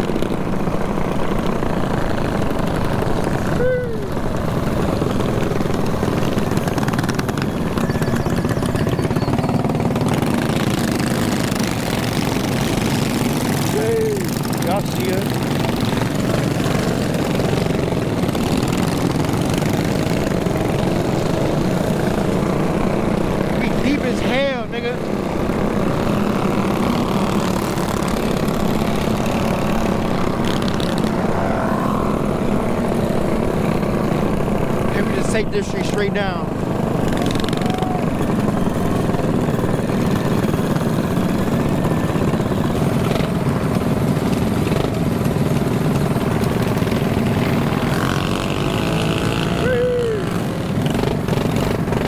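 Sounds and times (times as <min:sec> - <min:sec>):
mini bike engines running: 0:00.0 - 0:52.0.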